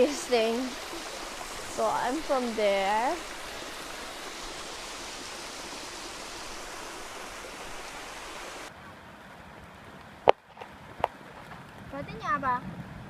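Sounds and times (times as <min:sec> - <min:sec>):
water rushing: 0:00.0 - 0:11.7.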